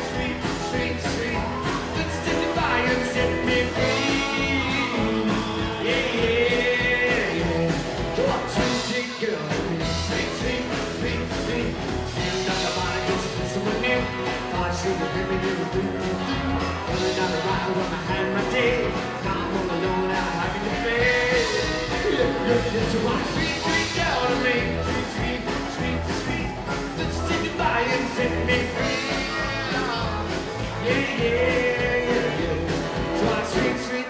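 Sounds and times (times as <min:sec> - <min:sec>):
man singing: 0:00.0 - 0:34.0
rockabilly band playing: 0:00.0 - 0:34.0.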